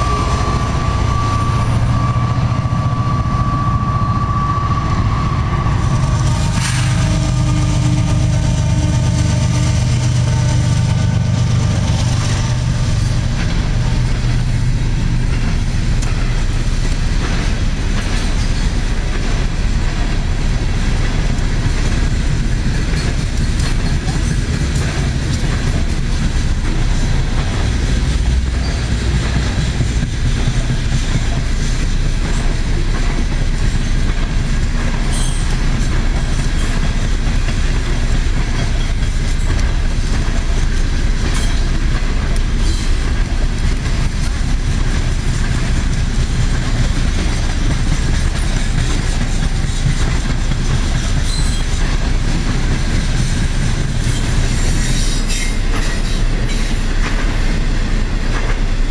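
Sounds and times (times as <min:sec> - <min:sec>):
steel wheels rumbling on rails: 0:00.0 - 0:58.9.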